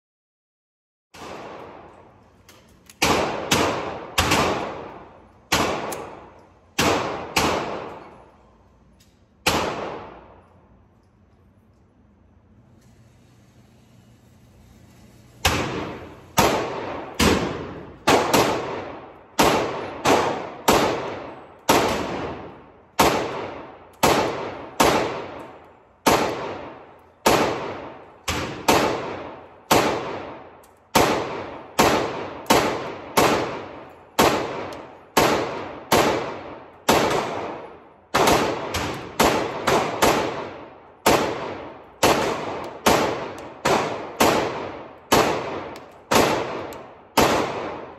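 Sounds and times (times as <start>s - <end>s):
pistol shots echoing indoors: 1.2s - 12.4s, 14.6s - 47.9s.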